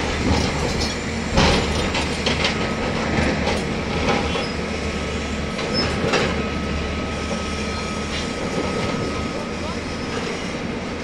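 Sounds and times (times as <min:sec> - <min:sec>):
diesel excavator engines running: 0:00.0 - 0:11.0.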